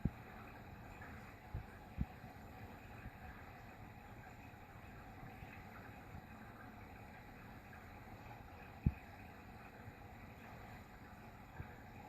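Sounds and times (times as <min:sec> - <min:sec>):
washing machine hum and hiss: 0:00.0 - 0:12.0.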